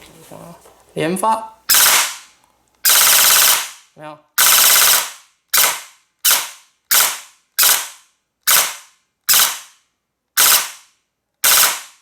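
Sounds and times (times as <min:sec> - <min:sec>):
airsoft gun single shots: 0:01.7 - 0:09.8, 0:10.4 - 0:12.0.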